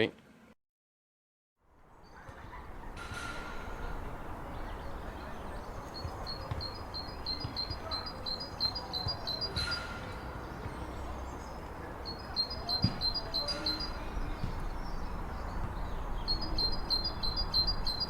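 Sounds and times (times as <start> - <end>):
great tit singing: 2.0 - 18.0.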